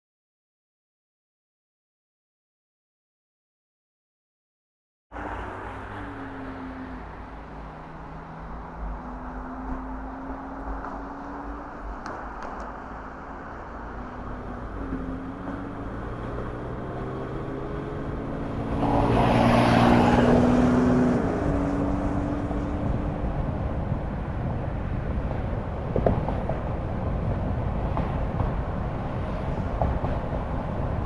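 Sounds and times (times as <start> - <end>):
road noise: 5.1 - 31.0
car engine hum: 5.2 - 31.0.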